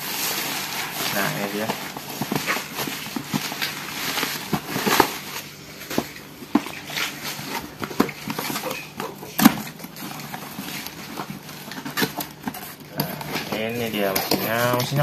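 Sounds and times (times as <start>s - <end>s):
bubble wrap crinkling and tearing: 0.0s - 15.0s.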